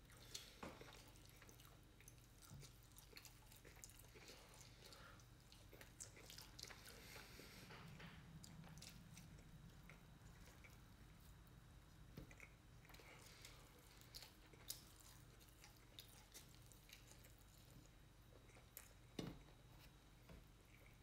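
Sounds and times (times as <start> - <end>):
chewing and wet mouth sounds: 0.0 - 21.0.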